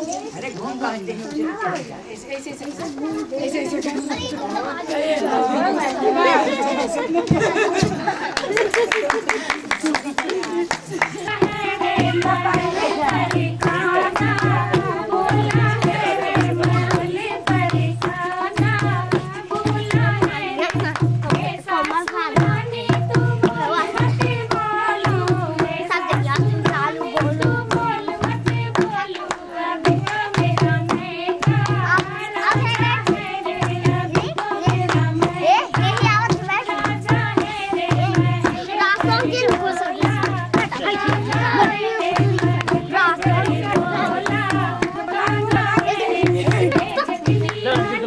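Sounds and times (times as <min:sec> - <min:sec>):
folk singing: 0:02.7 - 0:48.0
hand drum deep beat: 0:07.0 - 0:08.8, 0:10.7 - 0:48.0.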